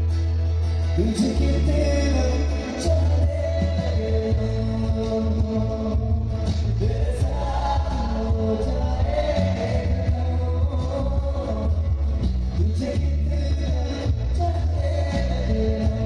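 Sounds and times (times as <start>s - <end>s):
acoustic guitar: 0.0s - 16.0s
bass guitar: 0.0s - 16.0s
man singing: 0.8s - 16.0s.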